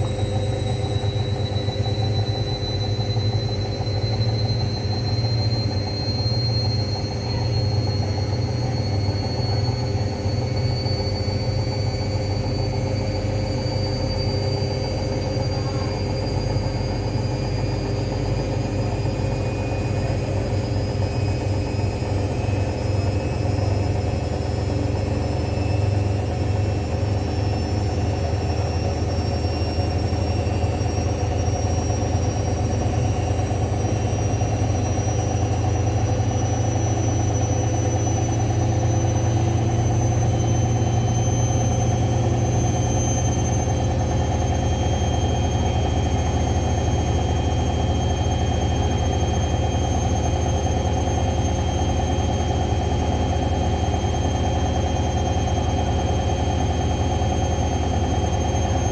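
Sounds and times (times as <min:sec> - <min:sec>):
washing machine spinning: 0:00.0 - 0:58.9.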